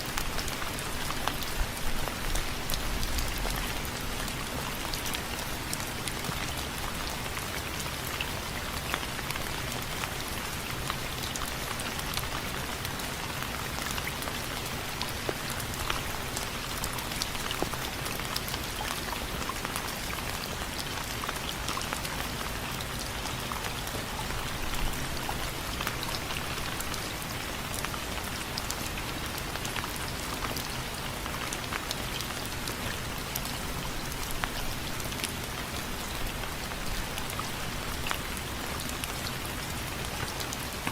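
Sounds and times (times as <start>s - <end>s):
rain on window frames: 0.0s - 40.9s.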